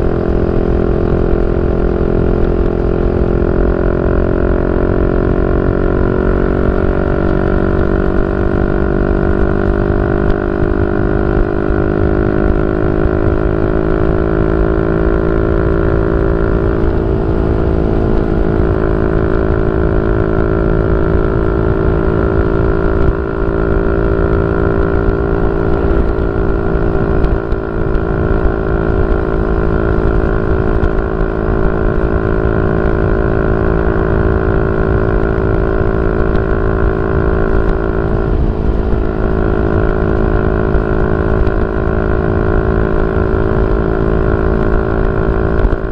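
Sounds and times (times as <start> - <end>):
motorcycle engine running steady: 0.0 - 45.9.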